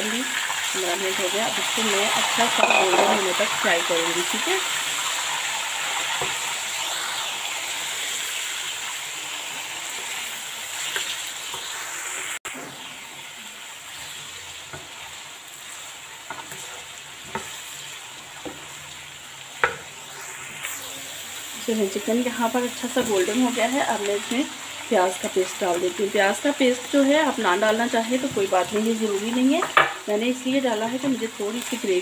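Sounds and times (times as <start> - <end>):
chicken sizzling in oil: 0.0 - 32.0.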